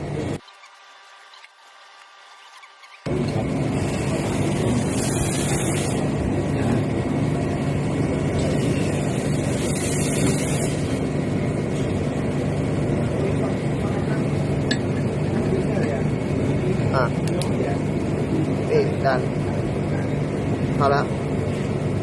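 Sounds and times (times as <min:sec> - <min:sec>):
machinery humming: 0:00.0 - 0:00.5, 0:03.0 - 0:22.0.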